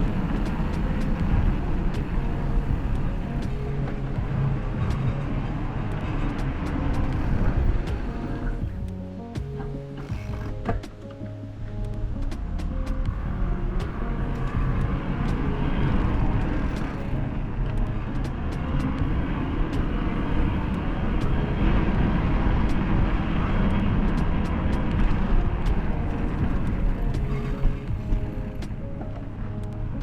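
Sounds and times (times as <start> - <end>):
faint background music: 0.0 - 30.0
rushing wind on microphone: 0.0 - 30.0.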